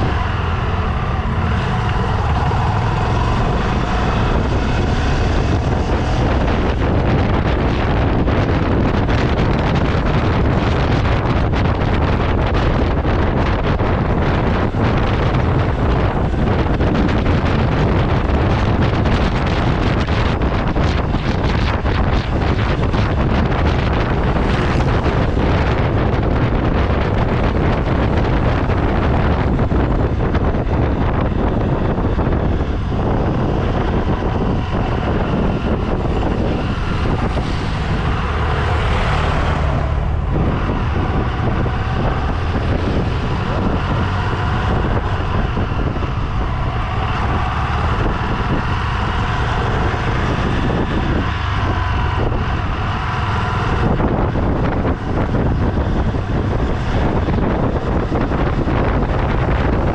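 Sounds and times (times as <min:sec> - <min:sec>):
vehicle engine running: 0:00.0 - 0:59.9
wind noise on microphone: 0:00.0 - 0:59.9.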